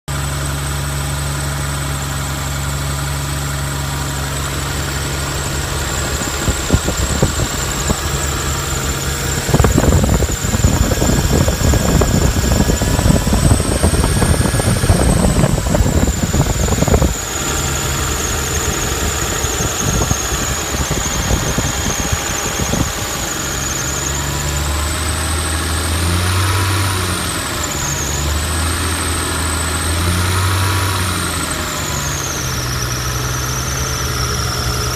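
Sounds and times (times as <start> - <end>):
car engine idling: 0.1 - 34.9
high-pitched squeal: 2.5 - 34.9.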